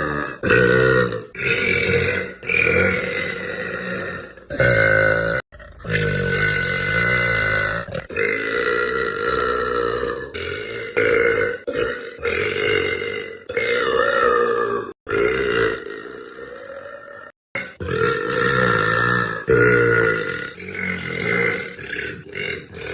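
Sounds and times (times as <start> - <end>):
girl burping loudly: 0.0 - 22.9.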